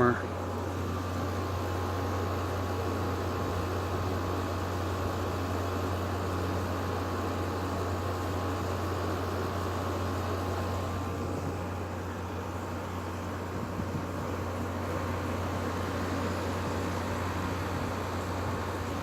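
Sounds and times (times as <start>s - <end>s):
air conditioner humming: 0.0s - 19.0s
fan blowing air: 0.0s - 19.0s.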